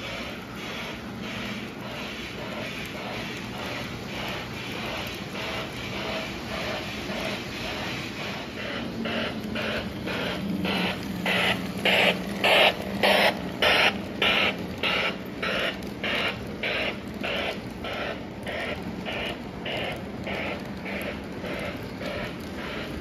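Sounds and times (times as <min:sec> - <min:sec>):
model train clattering on track: 0:00.0 - 0:23.0.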